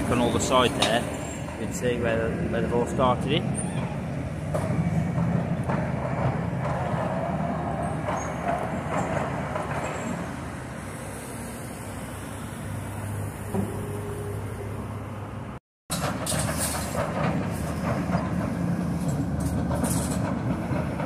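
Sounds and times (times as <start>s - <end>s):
heavy road traffic rumble: 0.0s - 21.0s.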